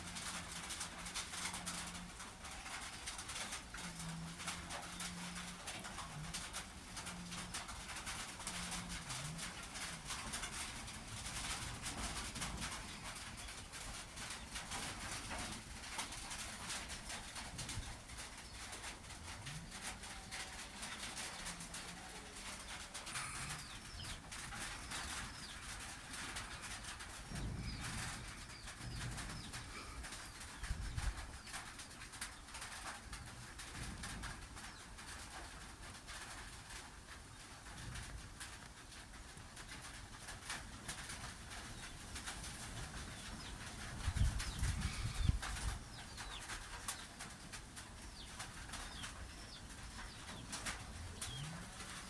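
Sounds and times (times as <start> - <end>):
dove cooing: 0.0 - 32.8, 41.6 - 52.0
steady outdoor hiss: 0.0 - 52.0.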